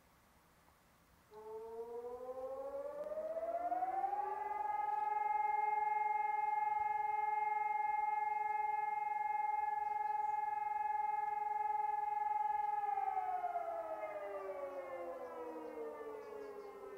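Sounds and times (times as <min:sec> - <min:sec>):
warning siren wailing: 0:01.3 - 0:16.9.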